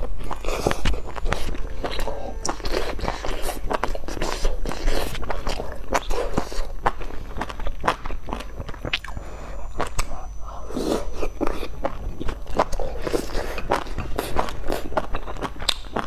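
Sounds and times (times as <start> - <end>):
crunchy bites and chewing: 0.0 - 16.0.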